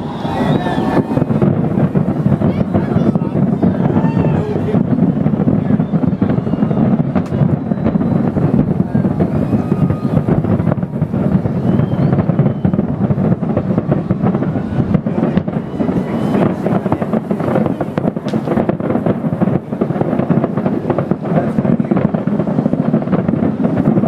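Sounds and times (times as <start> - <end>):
crowd voices: 0.0 - 24.0
distant fireworks booming and crackling: 0.0 - 24.0.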